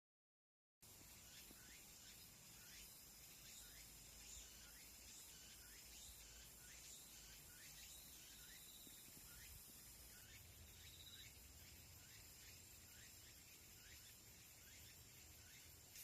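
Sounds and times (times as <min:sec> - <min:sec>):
high insect drone: 0:00.8 - 0:16.0
sweeping insect chirps: 0:00.8 - 0:16.0.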